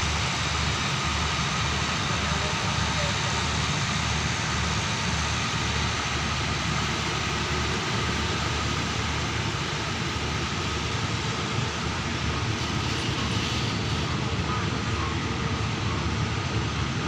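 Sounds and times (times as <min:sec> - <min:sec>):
train rumbling and hissing: 0:00.0 - 0:17.0.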